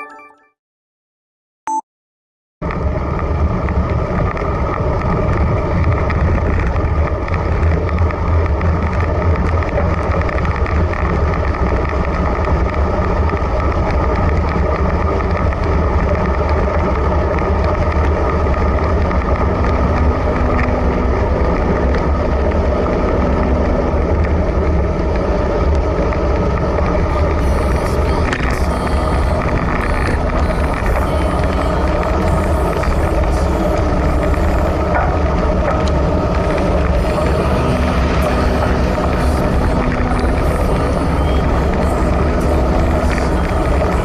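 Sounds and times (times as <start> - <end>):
wind buffeting microphone: 2.8 - 40.8.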